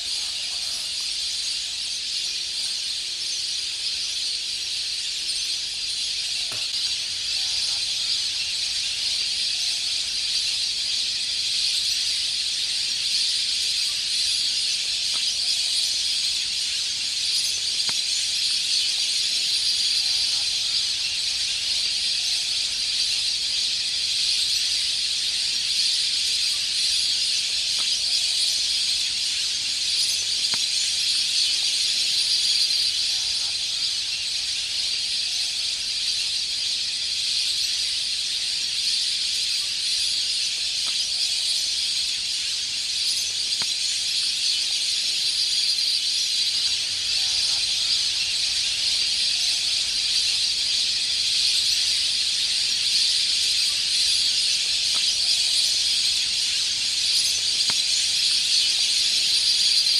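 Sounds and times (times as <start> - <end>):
flock of waterbirds calling: 0.0 - 59.9.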